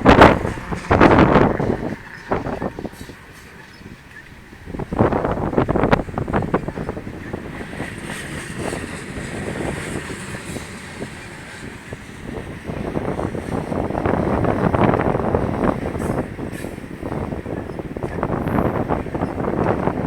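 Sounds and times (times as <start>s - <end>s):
train wheels clacking over rails: 0.0s - 20.0s
wind buffeting microphone: 0.0s - 20.0s.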